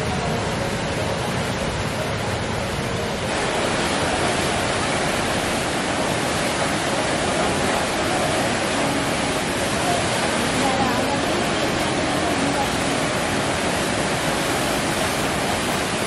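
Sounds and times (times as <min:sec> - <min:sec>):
rushing white water: 0:00.0 - 0:16.0.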